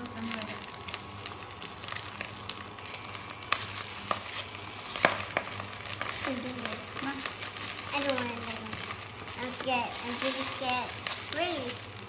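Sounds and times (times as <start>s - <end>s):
egg sizzling in hot oil: 0.0s - 12.0s.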